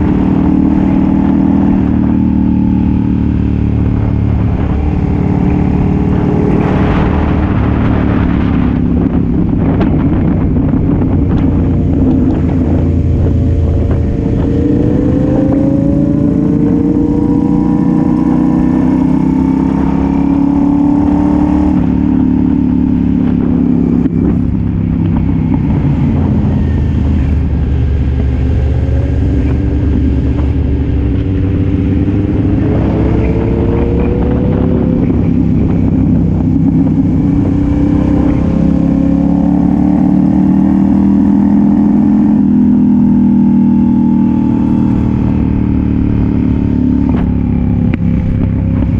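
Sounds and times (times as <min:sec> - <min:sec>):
motorcycle engine revving: 0:00.0 - 0:48.9
wind noise: 0:00.0 - 0:48.9.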